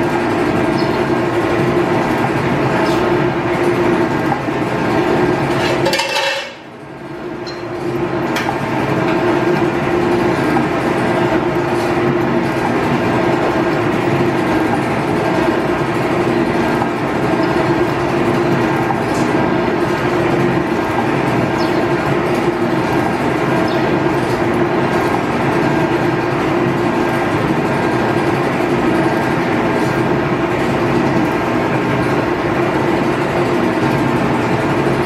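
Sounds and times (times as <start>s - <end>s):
metal shaper running: 0.0s - 35.0s.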